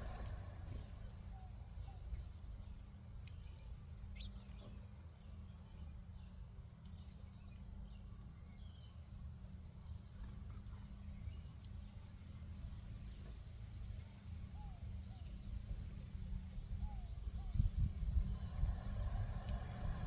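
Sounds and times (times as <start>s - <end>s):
faint low rumble: 0.0s - 20.0s
songbirds chirping: 0.0s - 20.0s.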